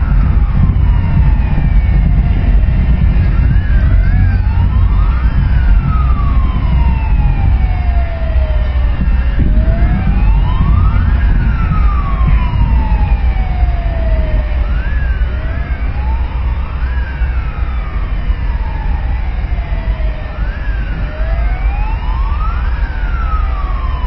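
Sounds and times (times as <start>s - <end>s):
low rumble: 0.0s - 24.0s
sirens wailing: 0.0s - 24.0s.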